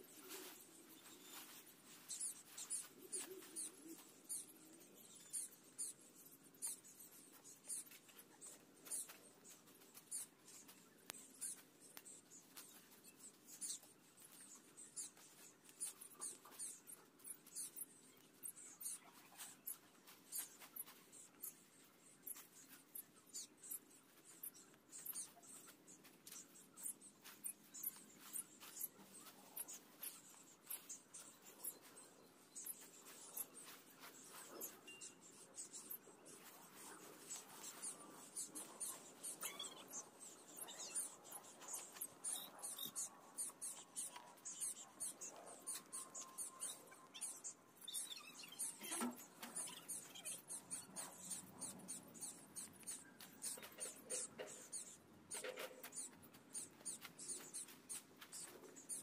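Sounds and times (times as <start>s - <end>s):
faint scratching and scraping strokes: 0.0s - 59.0s.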